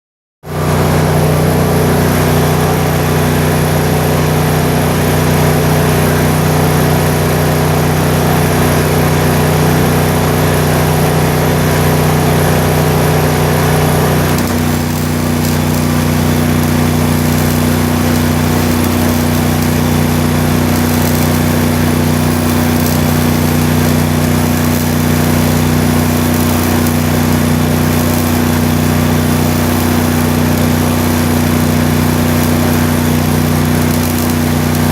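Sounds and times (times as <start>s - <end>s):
engine running: 0.4s - 34.9s.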